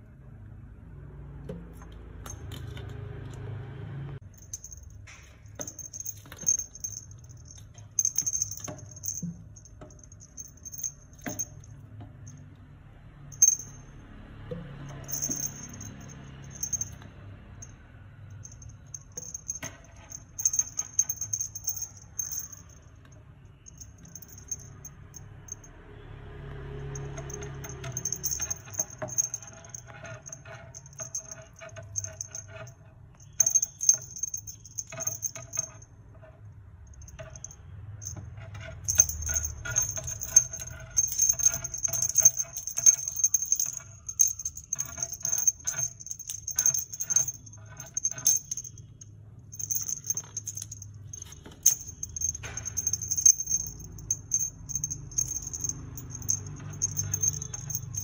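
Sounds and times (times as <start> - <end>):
small bells jingling: 4.2 - 12.5, 13.3 - 14.0, 14.8 - 22.9, 23.6 - 25.7, 26.8 - 35.9, 36.9 - 58.0.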